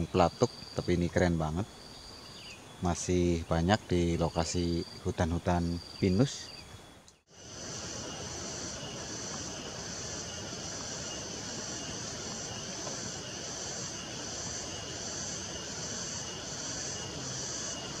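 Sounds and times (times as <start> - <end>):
insect chorus shrilling: 0.0 - 18.0.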